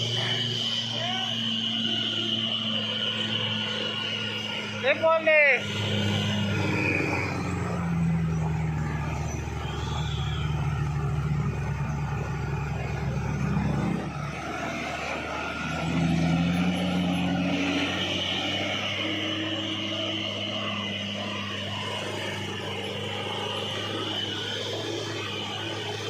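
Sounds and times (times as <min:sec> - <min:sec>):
truck diesel engine under load: 0:00.0 - 0:26.0.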